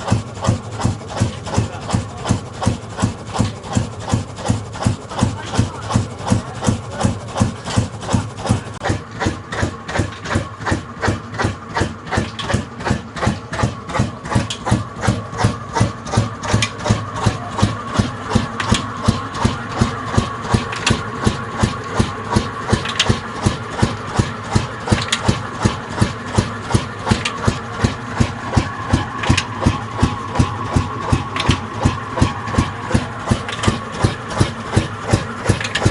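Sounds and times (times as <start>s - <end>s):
diesel engine thumping: 0.0s - 35.9s.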